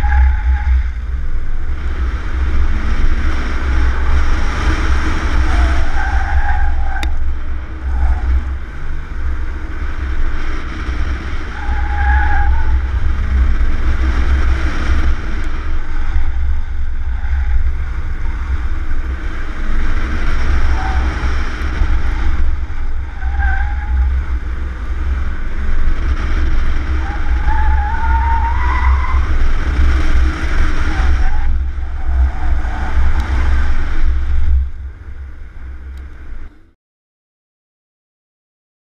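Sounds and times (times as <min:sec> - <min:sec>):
tires squealing: 0:00.0 - 0:36.5
wind rumble on microphone: 0:00.0 - 0:36.7.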